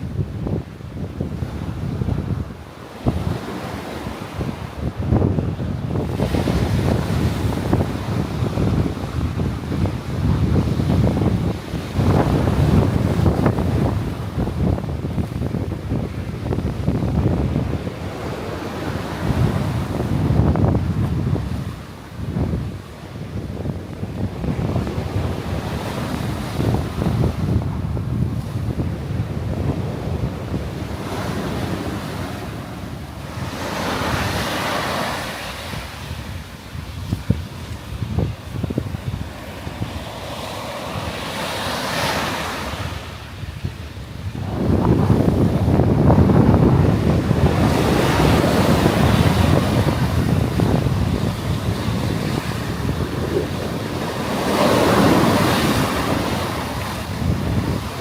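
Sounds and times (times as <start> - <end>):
sea waves breaking on beach: 0.0 - 58.0
wind buffeting microphone: 0.0 - 58.0.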